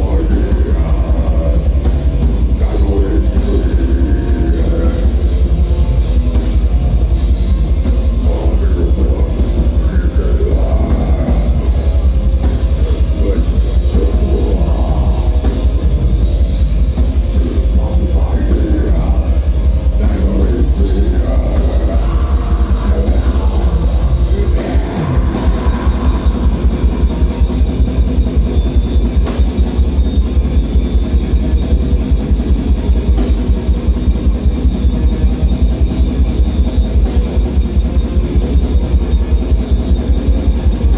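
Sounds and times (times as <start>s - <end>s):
bass guitar: 0.0s - 40.9s
distorted guitars: 0.0s - 40.9s
drums with fast kick drum: 0.0s - 40.9s.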